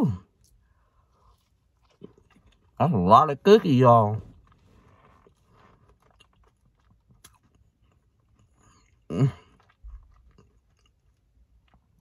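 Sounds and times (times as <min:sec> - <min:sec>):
chewing soft cookie: 0:00.1 - 0:12.0.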